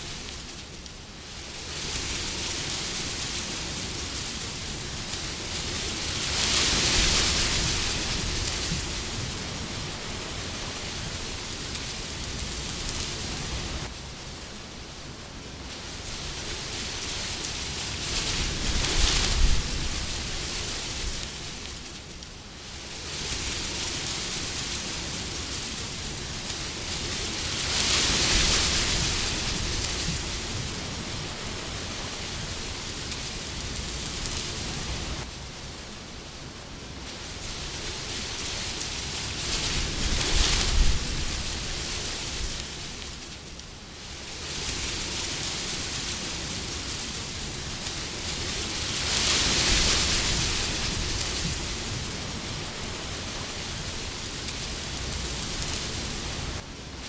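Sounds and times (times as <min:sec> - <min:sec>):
wind blowing: 0:01.6 - 0:57.0.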